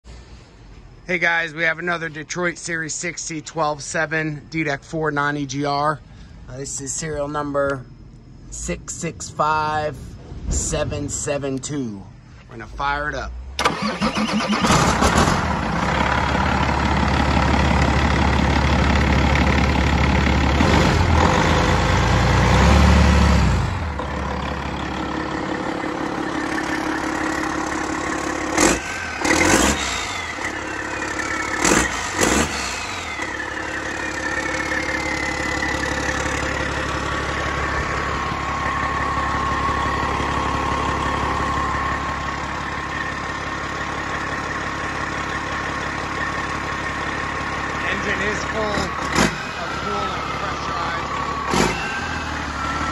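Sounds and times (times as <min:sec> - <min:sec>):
diesel engine running: 0:00.1 - 0:52.9.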